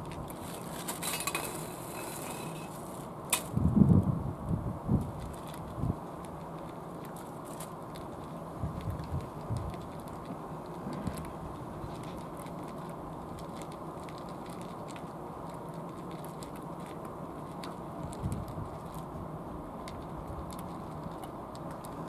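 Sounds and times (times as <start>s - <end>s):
cats crunching dry kibble: 0.0s - 4.1s, 4.9s - 22.0s
low background rumble: 0.0s - 22.0s.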